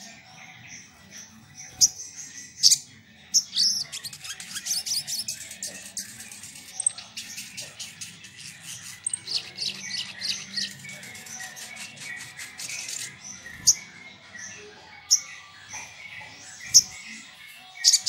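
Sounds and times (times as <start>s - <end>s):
sunbird twittering song: 0.0s - 18.0s.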